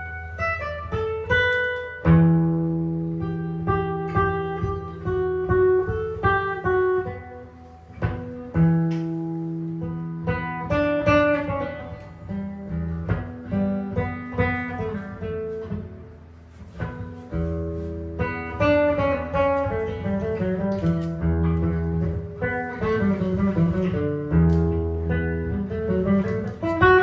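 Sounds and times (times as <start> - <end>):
solo jazz guitar: 0.0 - 27.0.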